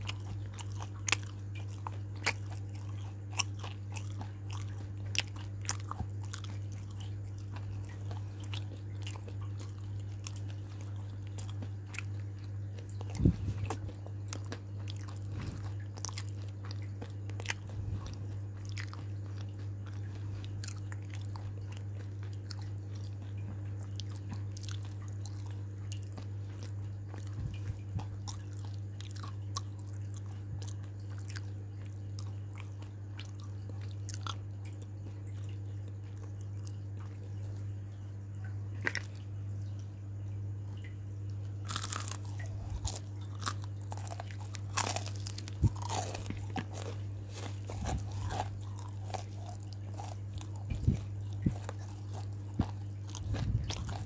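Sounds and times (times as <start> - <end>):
chewing crunchy food: 0.0 - 54.0
steady low hum: 0.0 - 54.0.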